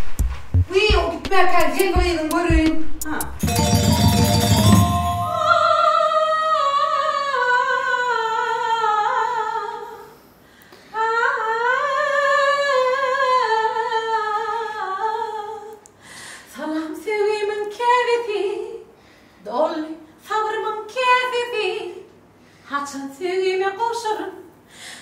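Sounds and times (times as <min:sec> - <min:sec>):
woman singing unaccompanied: 0:00.7 - 0:03.4, 0:04.4 - 0:10.0, 0:11.0 - 0:15.8, 0:16.5 - 0:22.1, 0:22.7 - 0:24.5.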